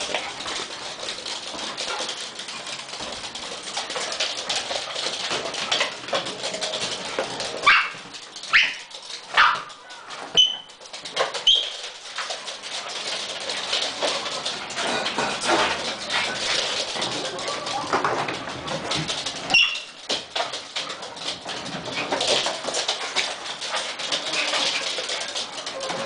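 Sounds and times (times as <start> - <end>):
claws scrabbling on wooden floor: 0.0 - 26.0.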